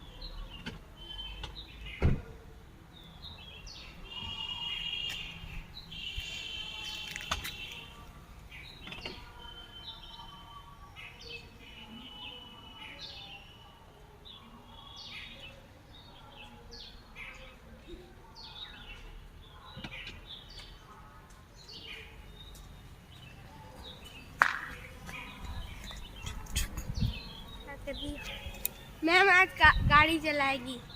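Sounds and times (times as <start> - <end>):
small birds chirping: 2.9 - 30.9.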